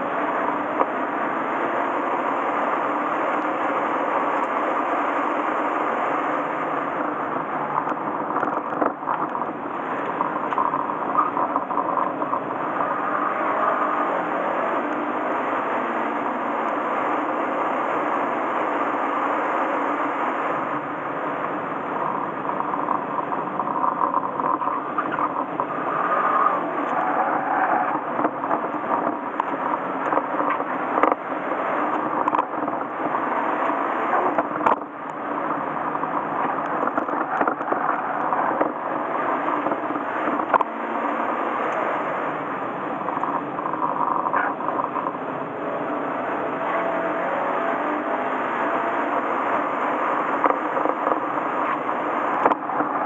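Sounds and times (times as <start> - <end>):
car engine running hard: 0.0 - 53.0
road and tyre noise: 0.0 - 53.0.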